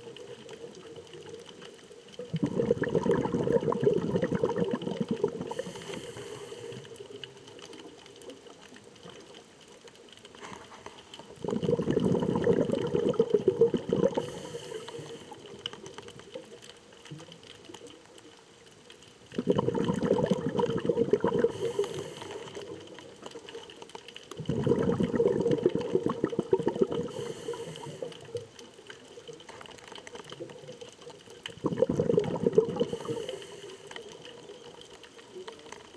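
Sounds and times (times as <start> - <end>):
dense underwater crackling: 0.0 - 35.9
faint underwater hiss: 0.0 - 35.9.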